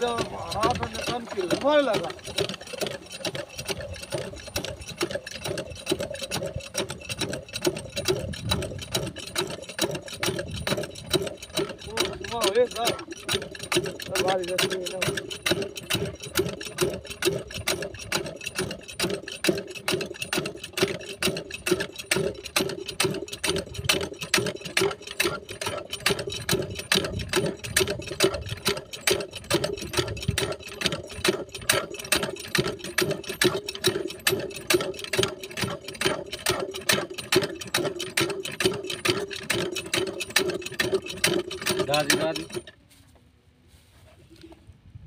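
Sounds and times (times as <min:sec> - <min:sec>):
diesel engine being hand-cranked: 0:00.0 - 0:42.8.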